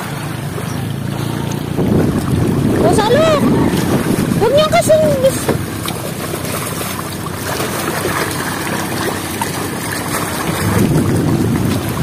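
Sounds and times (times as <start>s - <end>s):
fish thrashing and splashing: 0.0s - 12.0s.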